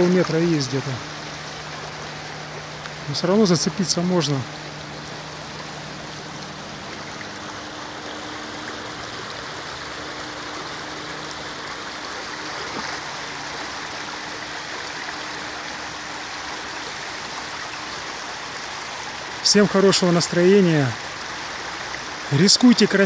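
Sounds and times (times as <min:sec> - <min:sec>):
river rushing over stones: 0:00.0 - 0:23.0.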